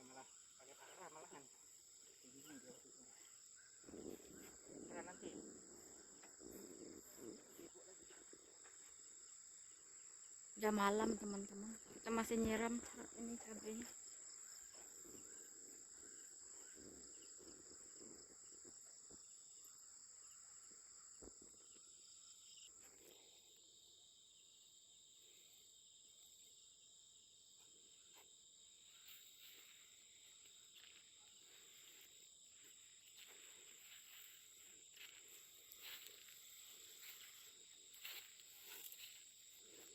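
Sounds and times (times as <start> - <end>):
crickets chirping: 0.0 - 39.9
low insect trill: 0.0 - 39.9.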